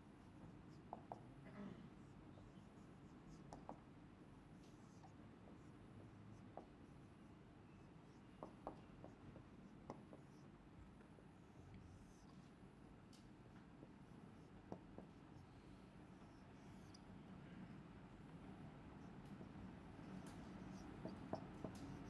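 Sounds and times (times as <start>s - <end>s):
marker pen writing on whiteboard: 0.1s - 1.4s, 2.0s - 17.1s, 17.7s - 22.0s.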